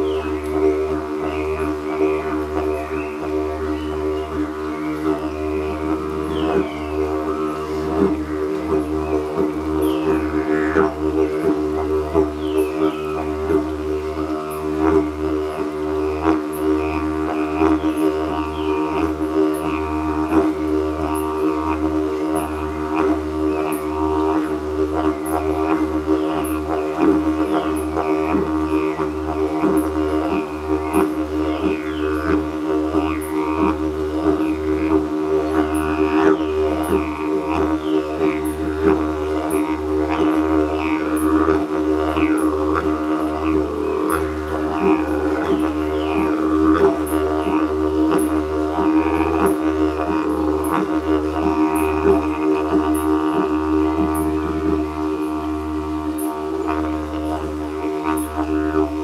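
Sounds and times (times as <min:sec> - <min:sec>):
didgeridoos droning: 0:00.0 - 0:59.0.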